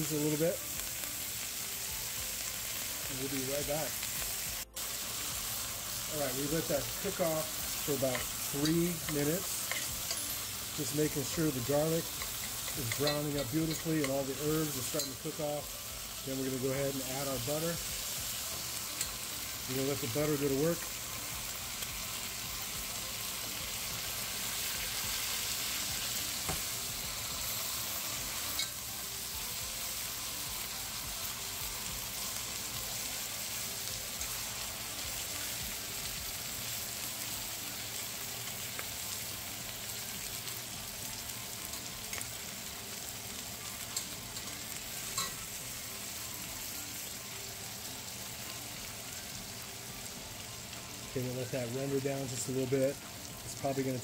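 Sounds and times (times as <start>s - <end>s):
steak sizzling in a hot pan: 0.0s - 54.0s.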